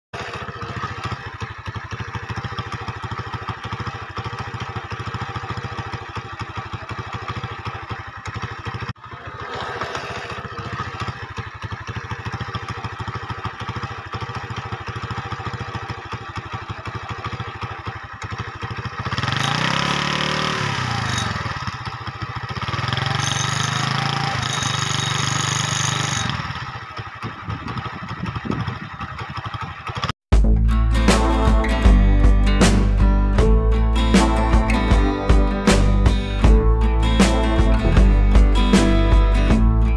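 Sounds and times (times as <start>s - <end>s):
engine chugging: 0.2s - 39.9s.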